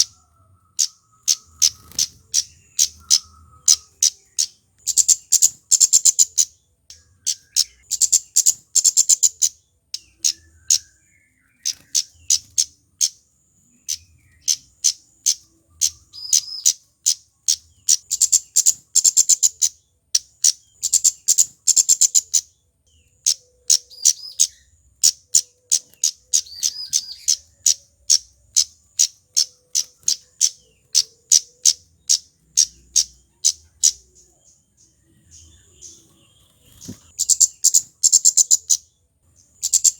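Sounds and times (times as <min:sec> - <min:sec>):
bird high ticking calls: 0:00.0 - 0:39.9.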